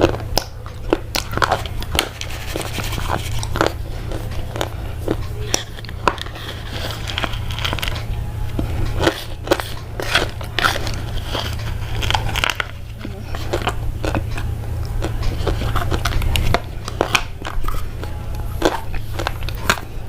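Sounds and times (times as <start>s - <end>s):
crunching and crackling clicks: 0.0s - 20.0s
low hum: 0.0s - 20.0s.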